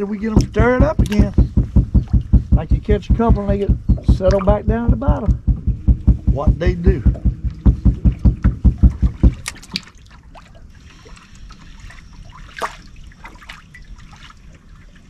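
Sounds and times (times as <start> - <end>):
gentle water lapping: 0.0 - 15.0
water slapping boat hull: 0.0 - 15.0.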